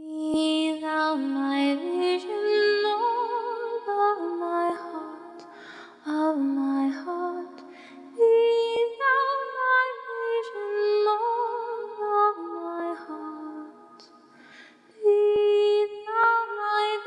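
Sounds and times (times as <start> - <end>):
a cappella vocal harmony: 0.0 - 17.0.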